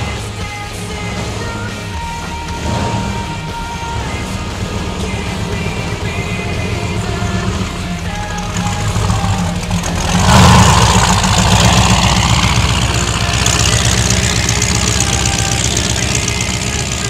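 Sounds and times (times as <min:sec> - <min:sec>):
powerboat engines rumbling: 0:00.0 - 0:17.0.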